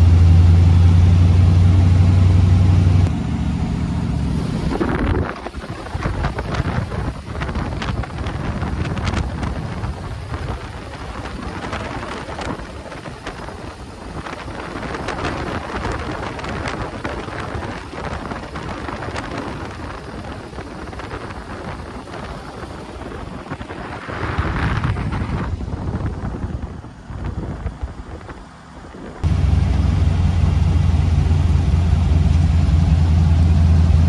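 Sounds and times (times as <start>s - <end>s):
car running noise: 0.0s - 34.0s
wind buffeting microphone: 4.3s - 32.8s.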